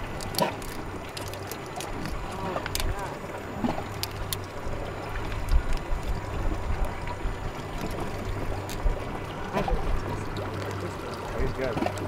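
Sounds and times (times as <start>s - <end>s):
choppy water: 0.0s - 12.0s.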